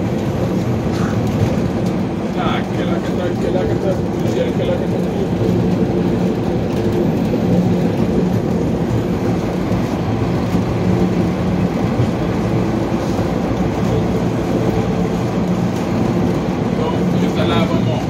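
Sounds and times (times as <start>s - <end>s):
subway wheels rumbling on rail: 0.0s - 18.0s.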